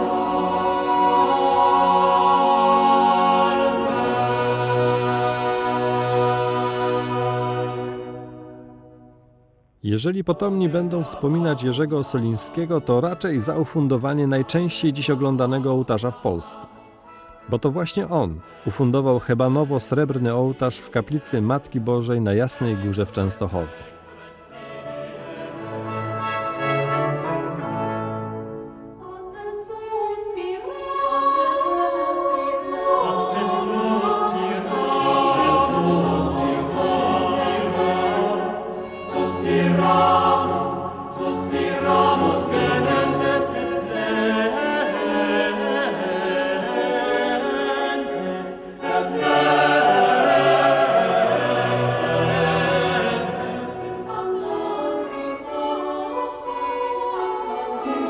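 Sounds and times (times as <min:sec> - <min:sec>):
choir singing with orchestra: 0:00.0 - 0:09.0, 0:10.4 - 0:58.0.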